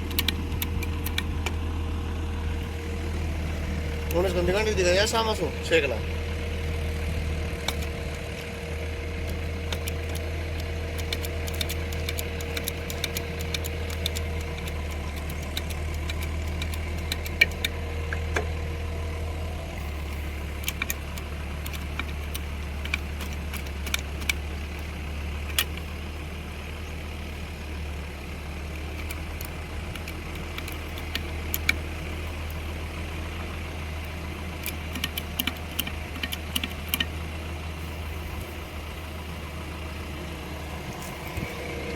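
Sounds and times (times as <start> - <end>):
heavy machine engine idling: 0.0 - 41.9.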